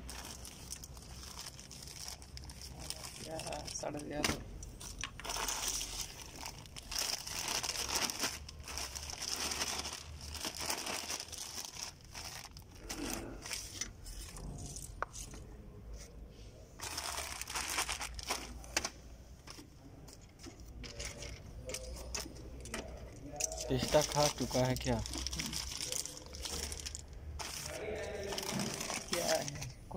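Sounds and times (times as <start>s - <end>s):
plastic packaging crinkling: 0.0s - 15.1s, 16.8s - 19.6s, 20.7s - 29.8s.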